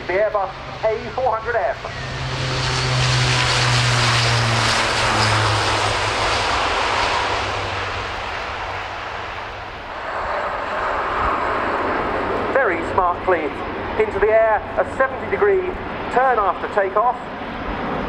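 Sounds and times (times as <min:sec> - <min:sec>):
low steady engine drone: 0:00.0 - 0:18.0
propeller roar: 0:00.0 - 0:18.0.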